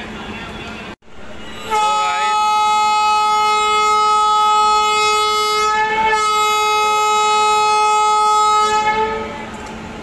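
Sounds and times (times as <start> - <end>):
locomotive horn blast: 1.2 - 9.7.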